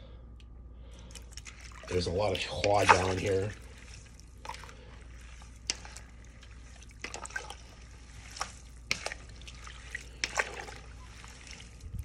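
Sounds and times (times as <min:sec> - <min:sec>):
liquid sloshing in metal pot: 0:00.9 - 0:12.0.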